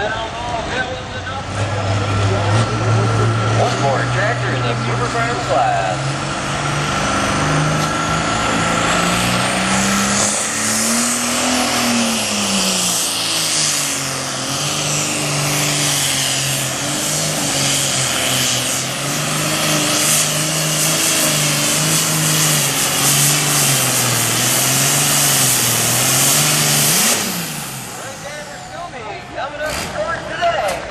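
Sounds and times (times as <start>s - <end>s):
tractor diesel engine under load: 0.0s - 30.9s.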